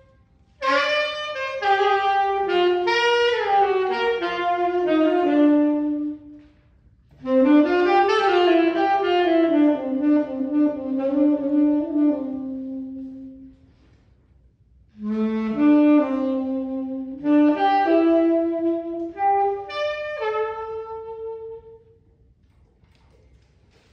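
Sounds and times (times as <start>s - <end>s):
tenor saxophone melody: 0.0s - 14.0s, 14.9s - 22.4s.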